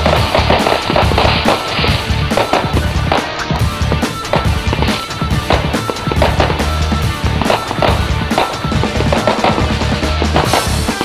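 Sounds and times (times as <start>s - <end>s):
fast drum beat: 0.0s - 11.0s
sustained bass notes: 0.0s - 11.0s.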